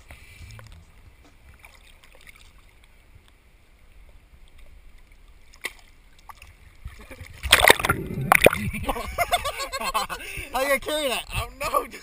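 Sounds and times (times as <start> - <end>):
water lapping and sloshing: 0.0 - 10.6.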